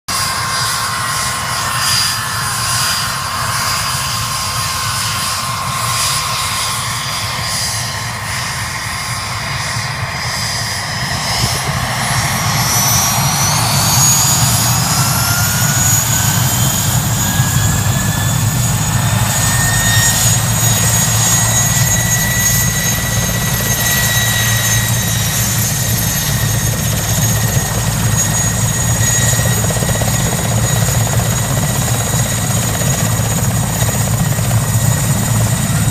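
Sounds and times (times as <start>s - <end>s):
helicopter rotor beat: 0.1s - 35.9s
high engine whine: 0.1s - 35.9s.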